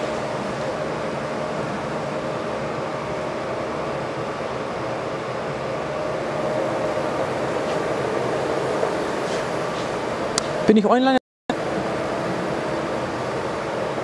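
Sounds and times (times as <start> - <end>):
machinery hum and hiss: 0.0 - 14.0.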